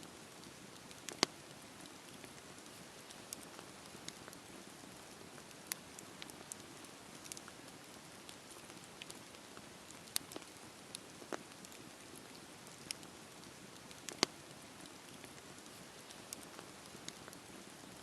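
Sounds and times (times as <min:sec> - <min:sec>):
fire crackles and pops: 0:00.0 - 0:18.0.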